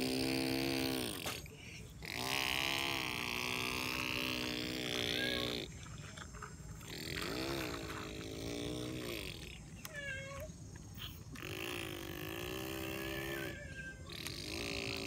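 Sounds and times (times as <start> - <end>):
long drawn-out vocal calls: 0.0 - 15.0.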